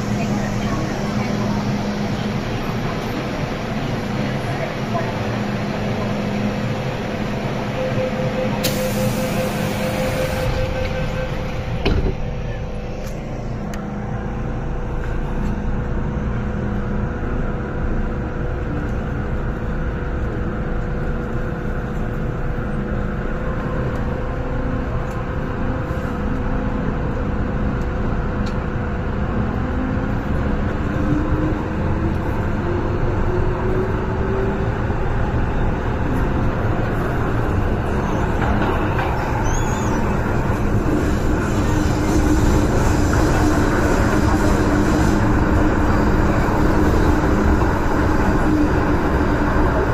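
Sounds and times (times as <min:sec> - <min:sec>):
metro train rumble: 0:00.0 - 0:49.9.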